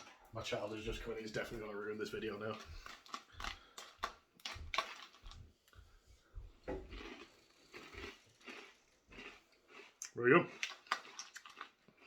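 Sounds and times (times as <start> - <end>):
dry cereal crunching: 0.9 - 5.5, 6.9 - 12.0.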